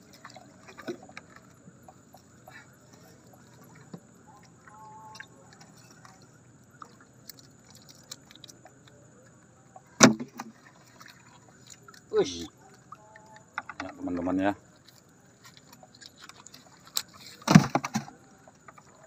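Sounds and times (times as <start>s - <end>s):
river water sloshing: 0.0s - 19.0s.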